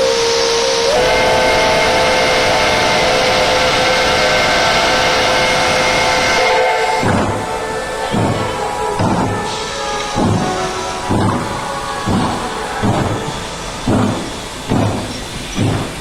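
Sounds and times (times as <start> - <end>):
locomotive exhaust beats: 0.0 - 16.0
steam hissing: 0.0 - 16.0
steam locomotive whistle: 0.0 - 16.0.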